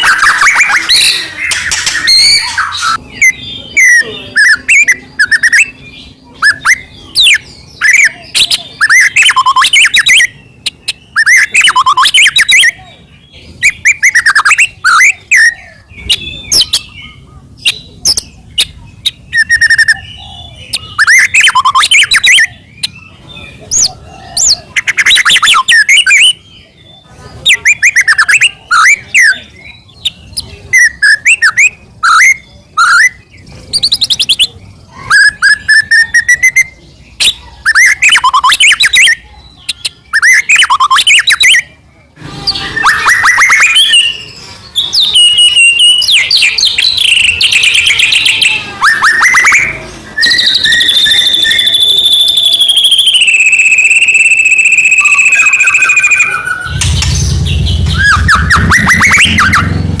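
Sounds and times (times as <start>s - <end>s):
bird singing whistled phrases and trills: 0.0s - 59.8s.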